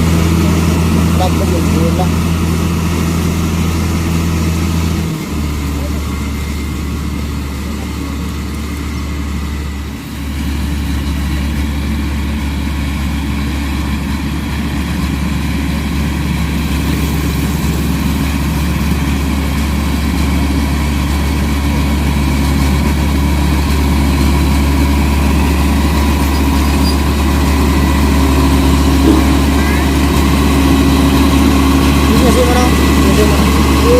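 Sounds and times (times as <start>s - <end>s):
diesel engine humming: 0.0s - 33.9s.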